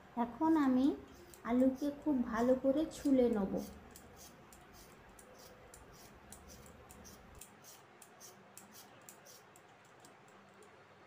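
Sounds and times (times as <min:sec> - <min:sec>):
vegetable peeler scraping potato: 0:00.4 - 0:09.6.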